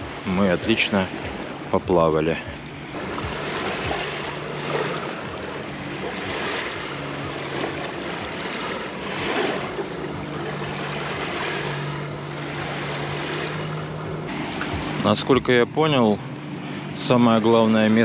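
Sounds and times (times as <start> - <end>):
faint low engine hum: 0.0 - 18.0
sea waves washing onto beach: 0.0 - 18.0.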